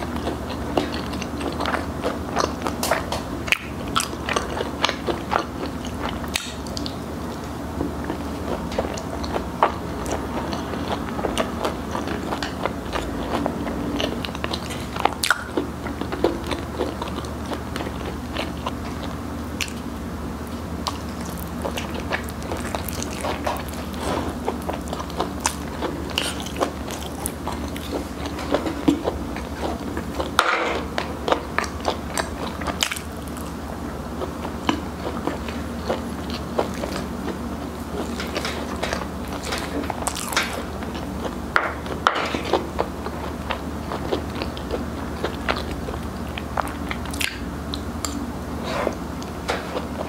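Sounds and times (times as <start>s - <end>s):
crunching fried chicken: 0.0s - 50.0s
wet chewing: 0.0s - 50.0s.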